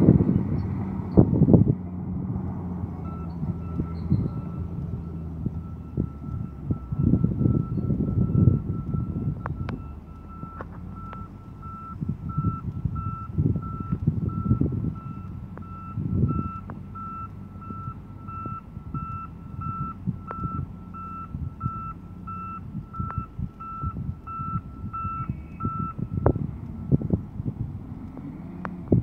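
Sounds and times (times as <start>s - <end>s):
diesel engines rumbling: 0.0s - 29.0s
reversing alarm beeping: 3.0s - 27.2s.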